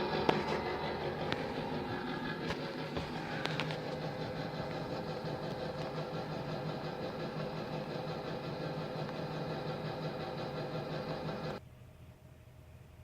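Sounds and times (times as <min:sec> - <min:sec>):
engine idling: 0:00.0 - 0:11.6.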